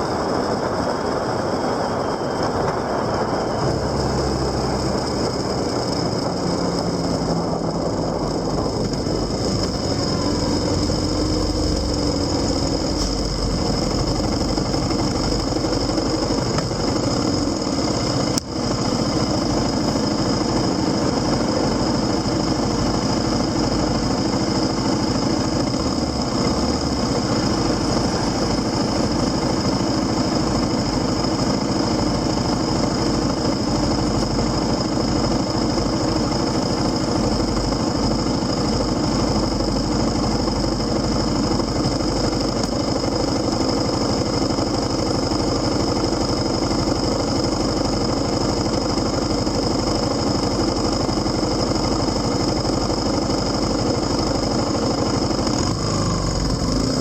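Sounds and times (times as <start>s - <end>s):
high whine: 0.0s - 57.0s
motorcycle engine running: 0.0s - 57.0s.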